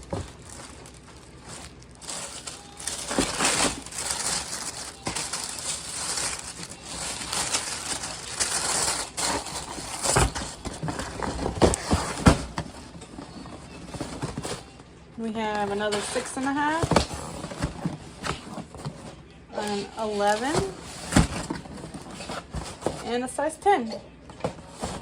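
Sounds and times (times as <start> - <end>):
cardboard boxes rustling: 0.0 - 23.2, 24.3 - 25.0.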